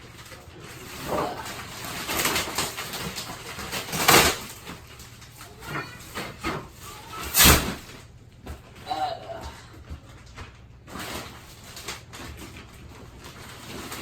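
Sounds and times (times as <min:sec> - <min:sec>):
plastic packaging crinkling: 0:00.0 - 0:08.8, 0:10.0 - 0:14.0.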